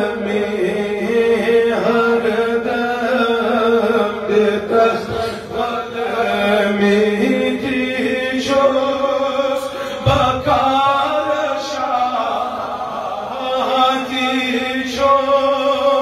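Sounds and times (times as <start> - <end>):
man chanting devotional poem: 0.0 - 16.0.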